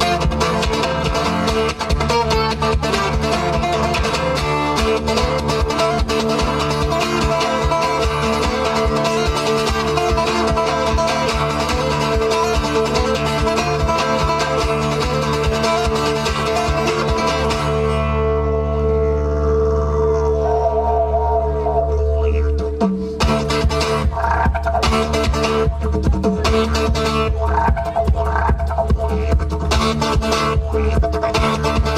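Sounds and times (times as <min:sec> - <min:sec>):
acoustic guitar strummed fast: 0:00.0 - 0:20.5, 0:22.3 - 0:31.9
didgeridoo drone: 0:00.0 - 0:31.9.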